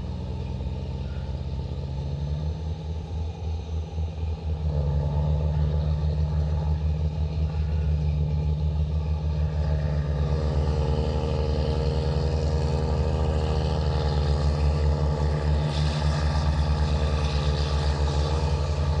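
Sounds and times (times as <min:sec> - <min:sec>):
tractor diesel engine throbbing: 0:00.0 - 0:19.0.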